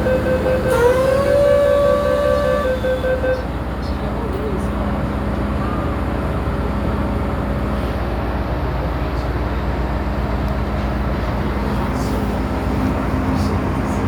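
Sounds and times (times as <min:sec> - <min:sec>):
constant hums: 0:00.0 - 0:14.0.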